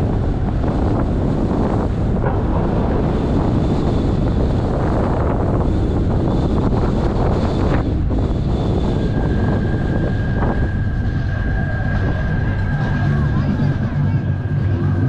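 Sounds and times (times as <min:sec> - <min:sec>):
car wind and road noise: 0:00.0 - 0:15.0.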